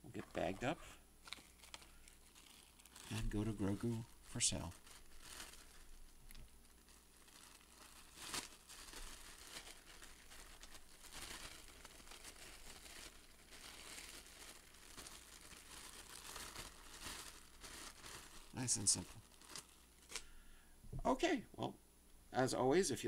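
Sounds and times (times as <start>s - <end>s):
plastic bag crinkling: 0.0s - 20.3s.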